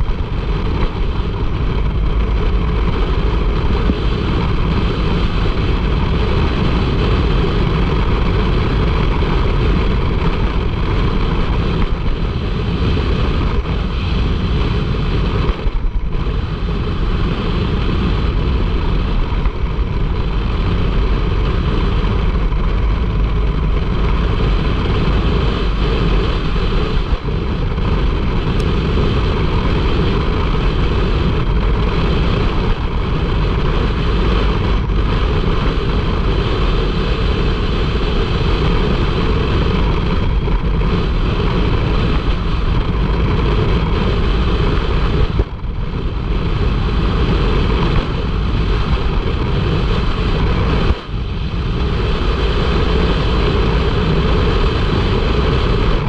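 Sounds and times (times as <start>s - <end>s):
off-road vehicle engine driving: 0.0s - 56.0s.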